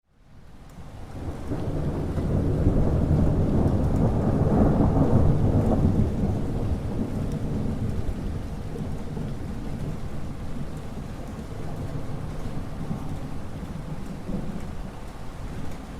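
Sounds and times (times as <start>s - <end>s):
steady rain: 0.0s - 15.9s
thunder rumbling: 1.0s - 15.9s.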